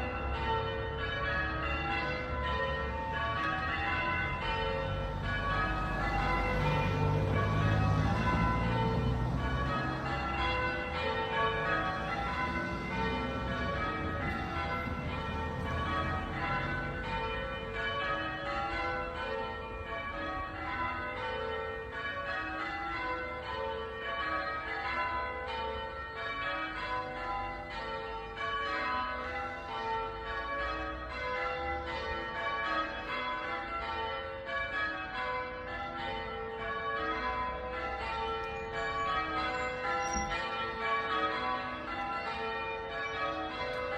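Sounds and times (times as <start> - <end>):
church bells ringing: 0.0 - 43.9.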